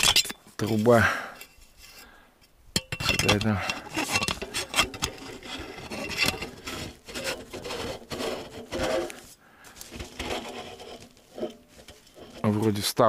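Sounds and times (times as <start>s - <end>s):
metal pipe scraping against fabric: 0.0s - 2.2s, 2.8s - 13.0s.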